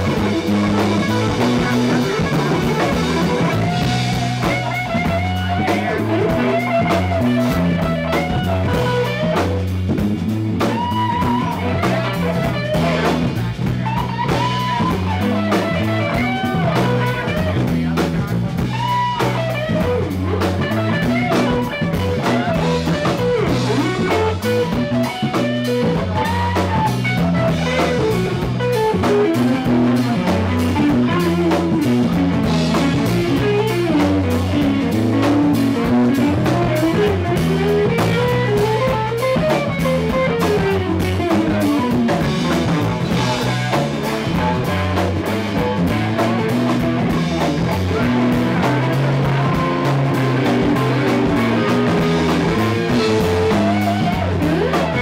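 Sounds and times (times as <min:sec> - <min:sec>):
drum kit: 0:00.0 - 0:55.0
electric bass: 0:00.0 - 0:55.0
electric guitar lead line: 0:00.0 - 0:55.0.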